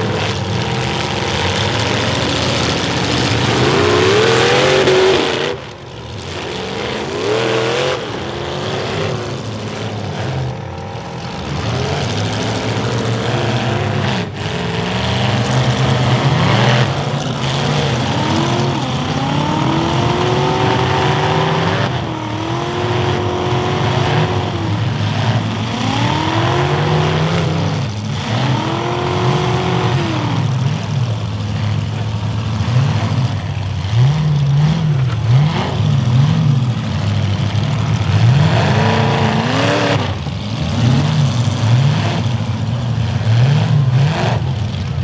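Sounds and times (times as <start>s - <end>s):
car engines revving hard: 0.0s - 45.0s.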